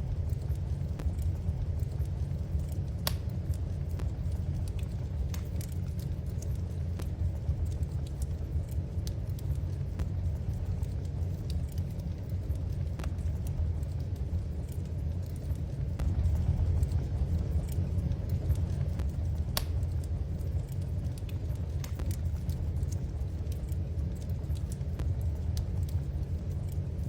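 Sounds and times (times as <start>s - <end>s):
fire crackling in fireplace: 0.0s - 27.0s.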